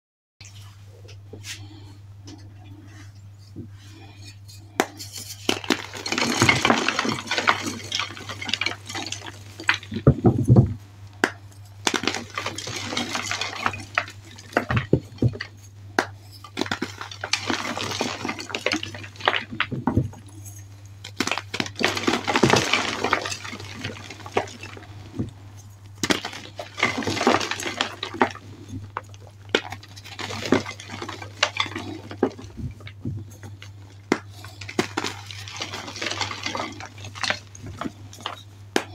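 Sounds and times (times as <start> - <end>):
chalk crunching and crumbling: 3.8 - 10.1, 11.5 - 38.5.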